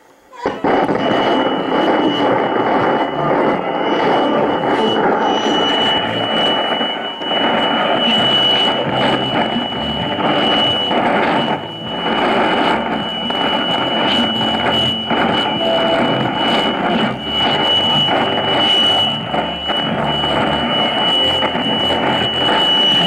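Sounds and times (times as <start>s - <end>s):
radio static hiss: 0.0s - 23.0s
steady high whistle: 0.0s - 23.0s.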